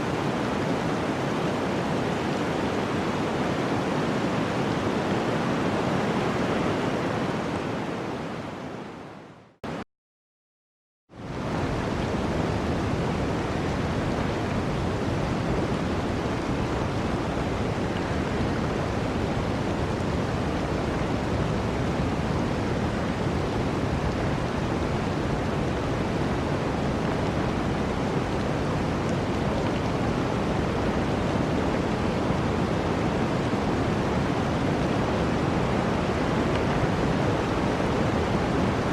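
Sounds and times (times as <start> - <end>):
rushing water: 0.0 - 9.8, 11.1 - 38.9.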